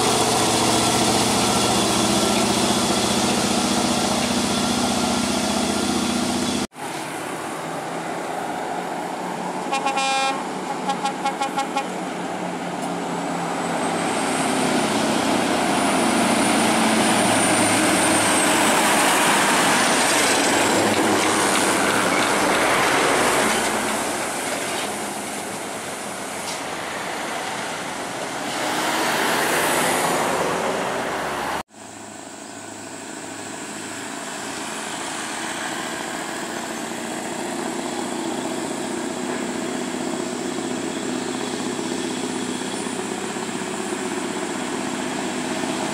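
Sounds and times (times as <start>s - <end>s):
truck engine and tyre noise: 0.0s - 45.9s.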